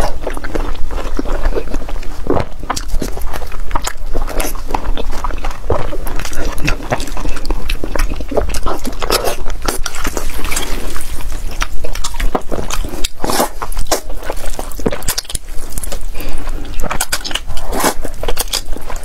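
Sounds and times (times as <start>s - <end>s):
slurping noodles: 0.0s - 19.0s
wet chewing with sticky clicks: 0.0s - 19.0s.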